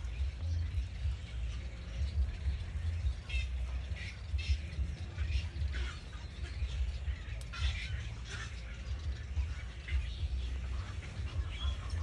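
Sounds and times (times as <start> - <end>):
small bird chirping: 0.0 - 12.0
steady low rumble: 0.0 - 12.0.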